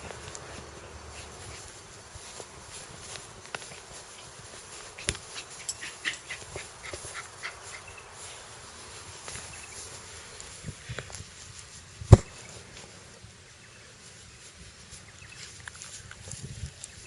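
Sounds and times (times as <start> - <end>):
hissy background: 0.0 - 17.0.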